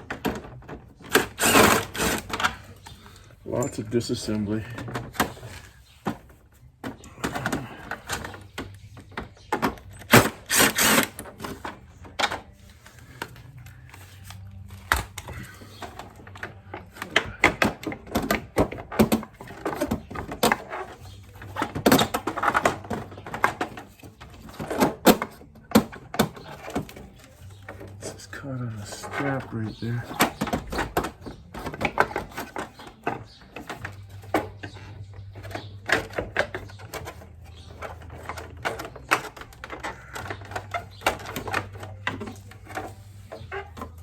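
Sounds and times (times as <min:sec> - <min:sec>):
hand tools and metal parts rattling: 0:00.0 - 0:44.0.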